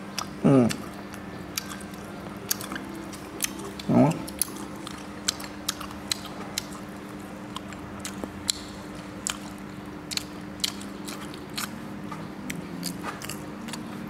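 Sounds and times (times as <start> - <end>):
chewing crunchy fried fish: 0.0 - 14.0
steady low hum: 0.0 - 14.0.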